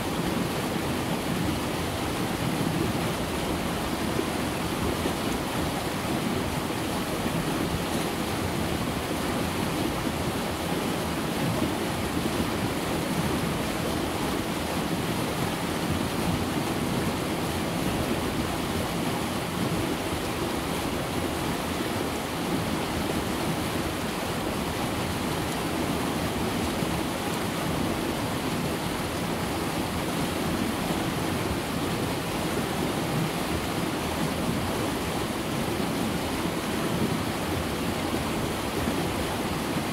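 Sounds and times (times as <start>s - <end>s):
river rushing through rapids: 0.0s - 39.9s.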